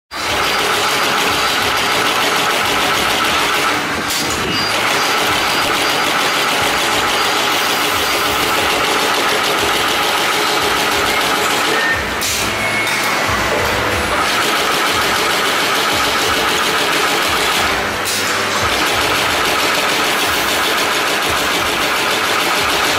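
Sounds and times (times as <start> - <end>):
brush tufting machine clatter: 0.1 - 12.2, 14.0 - 22.9.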